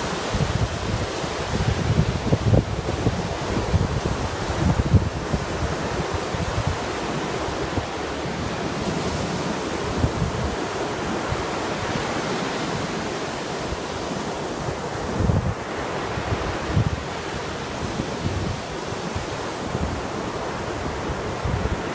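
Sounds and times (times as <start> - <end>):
sea surf washing in: 0.0 - 21.9
wind buffeting microphone: 0.0 - 21.9.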